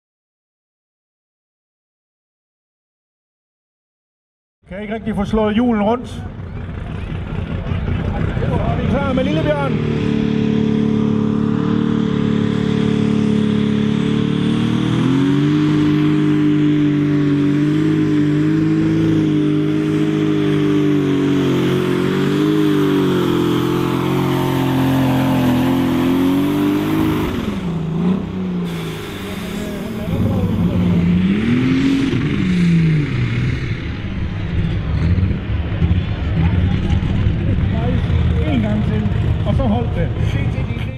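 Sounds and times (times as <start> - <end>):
tractor engine at full throttle: 4.7 - 40.9.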